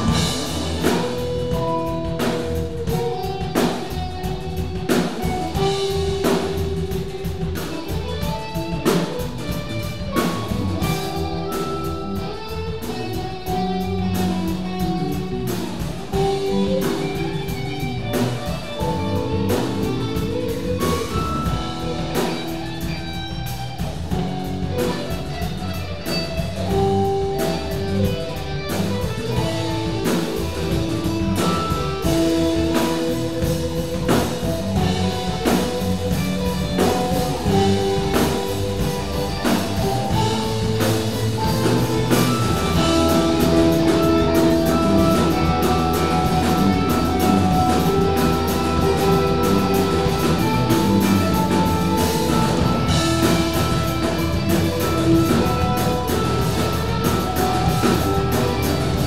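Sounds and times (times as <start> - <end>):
bass guitar: 0.0 - 59.0
drum kit beat: 0.0 - 59.0
electric guitars: 0.0 - 59.0
keyboard: 0.0 - 59.0.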